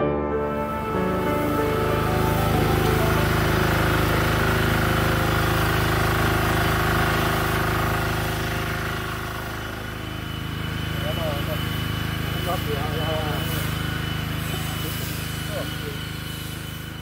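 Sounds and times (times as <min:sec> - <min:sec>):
small engine running: 0:00.4 - 0:17.0.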